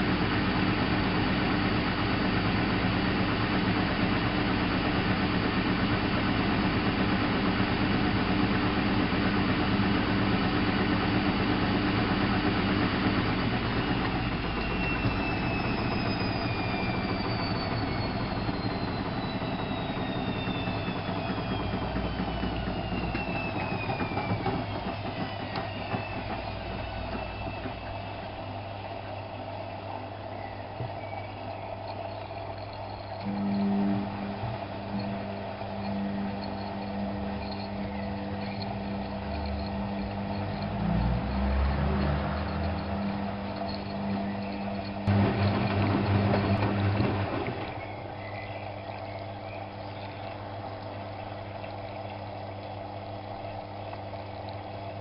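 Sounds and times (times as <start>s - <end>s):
washing machine drum whine: 0.0s - 55.0s
washing machine low hum: 0.0s - 55.0s.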